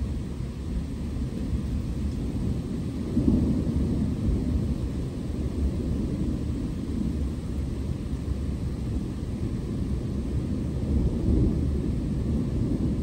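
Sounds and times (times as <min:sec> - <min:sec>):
low rolling thunder: 0:00.0 - 0:13.0.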